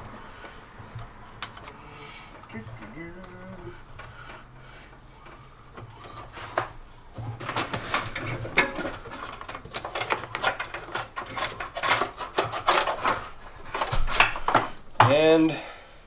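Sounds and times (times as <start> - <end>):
wiring scraping plastic trim: 0.4 - 15.1.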